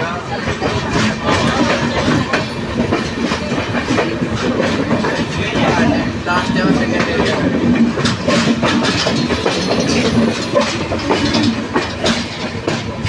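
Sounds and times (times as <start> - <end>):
train rumbling on track: 0.0 - 13.0
wheels clacking over rails: 0.0 - 13.0.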